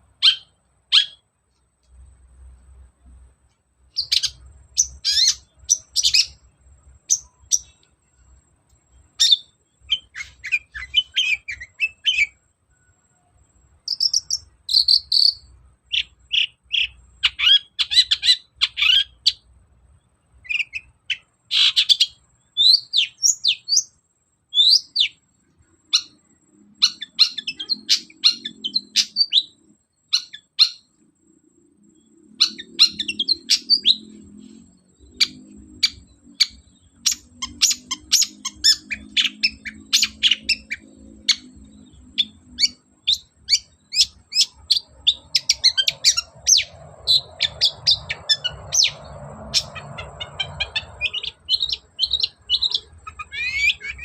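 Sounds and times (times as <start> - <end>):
bird singing sharp chirps and trills: 0.0 - 2.0, 3.9 - 54.0.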